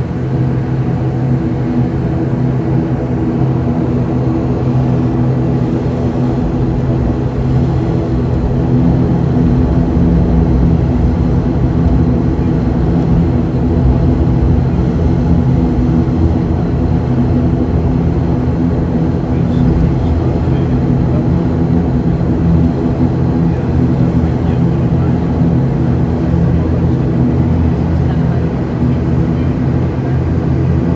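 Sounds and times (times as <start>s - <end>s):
turboprop engines droning: 0.0s - 30.9s.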